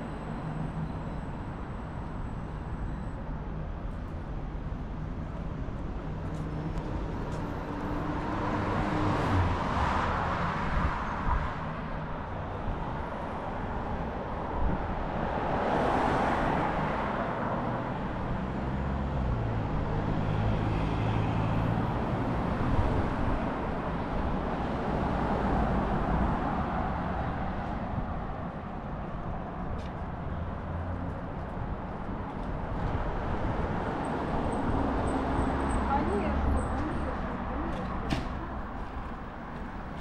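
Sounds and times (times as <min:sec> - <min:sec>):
cars passing: 0:05.3 - 0:40.0.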